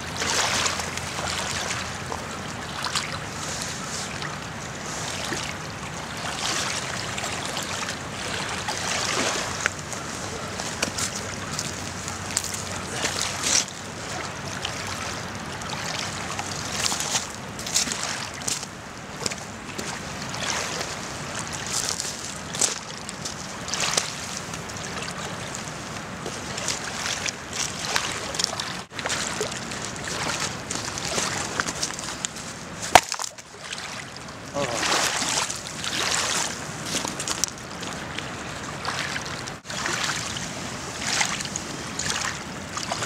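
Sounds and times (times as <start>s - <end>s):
waves lapping on pebbles: 0.0s - 43.0s.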